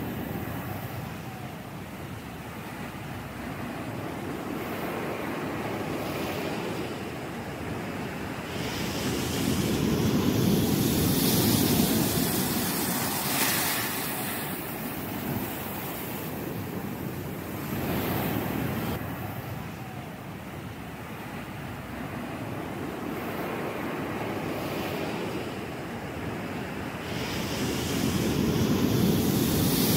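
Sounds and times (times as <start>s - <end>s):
waves breaking: 0.0s - 29.9s.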